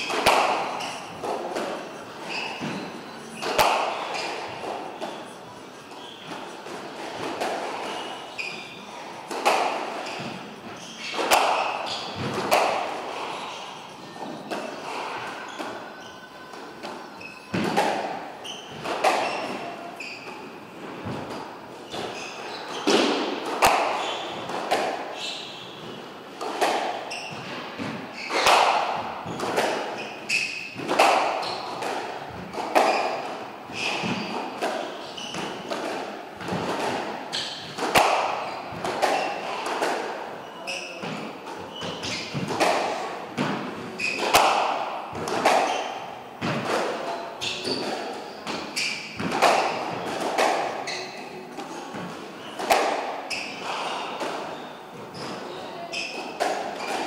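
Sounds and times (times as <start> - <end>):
squash ball hitting rackets and walls: 0.0 - 57.0.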